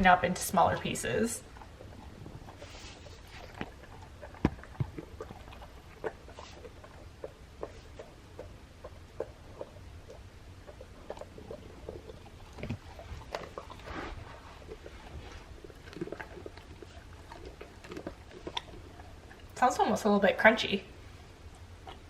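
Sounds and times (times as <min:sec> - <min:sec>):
puppy crunching a treat: 0:00.4 - 0:19.6.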